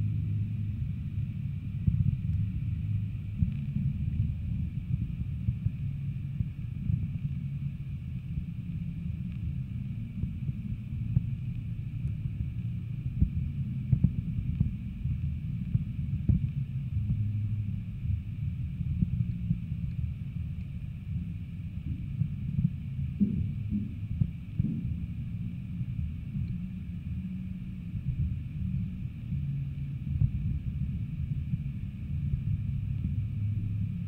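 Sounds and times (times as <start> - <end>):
faint clicks and ticks: 0.0 - 34.0
low underwater rumble: 0.0 - 34.0.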